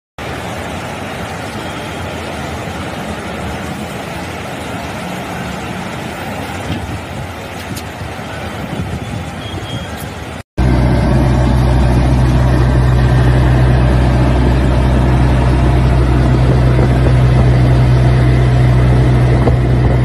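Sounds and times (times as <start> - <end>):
floodwater rushing: 0.2 - 20.0.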